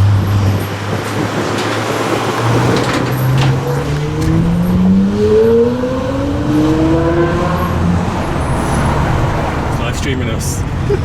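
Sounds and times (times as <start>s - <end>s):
car engine accelerating: 0.0s - 11.0s
street traffic noise: 0.0s - 11.0s.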